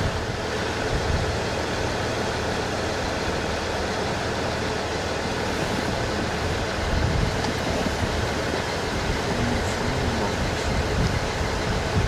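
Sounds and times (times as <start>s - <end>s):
vehicle road and engine noise: 0.0s - 12.0s.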